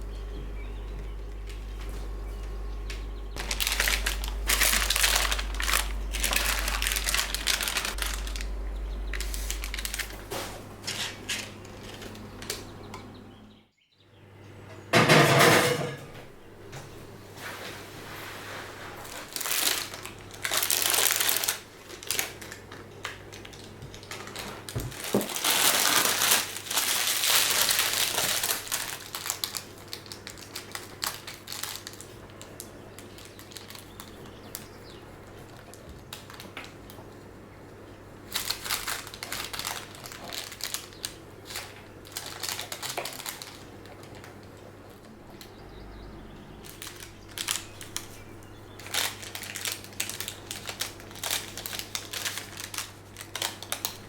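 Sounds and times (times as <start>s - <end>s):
crinkling and rustling: 0.0s - 13.2s, 15.1s - 54.0s
faint low hum: 0.0s - 54.0s.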